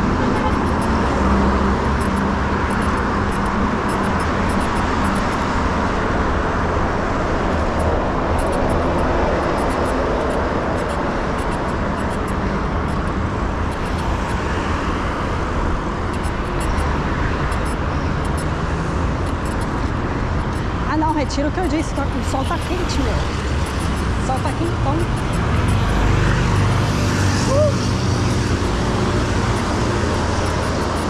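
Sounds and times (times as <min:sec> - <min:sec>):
road traffic: 0:00.0 - 0:31.0
wind rushing over microphone: 0:00.0 - 0:31.0.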